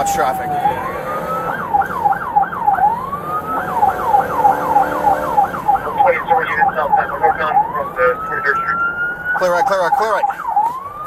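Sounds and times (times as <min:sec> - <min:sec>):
police siren cycling rapidly: 0:00.0 - 0:11.0
slow rising siren wail: 0:00.0 - 0:11.0.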